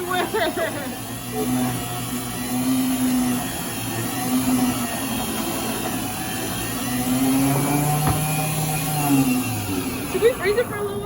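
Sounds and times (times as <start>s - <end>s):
blender motor humming: 0.0s - 11.0s.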